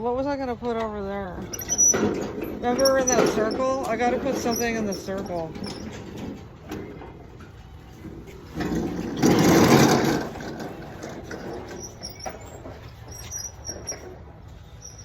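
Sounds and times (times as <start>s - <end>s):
loud rattling scraping: 1.3s - 15.0s.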